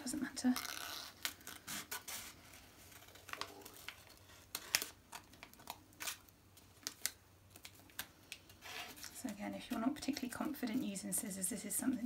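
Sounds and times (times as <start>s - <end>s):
paper crinkling: 0.4s - 12.0s.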